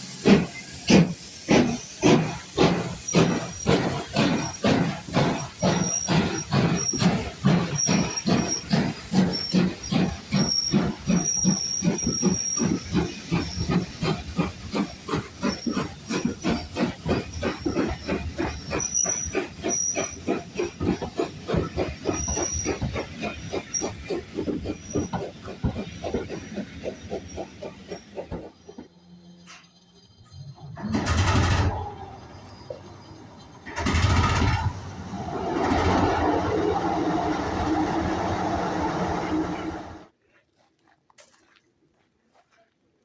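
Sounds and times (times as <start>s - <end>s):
steam locomotive chuffing: 0.0s - 40.2s.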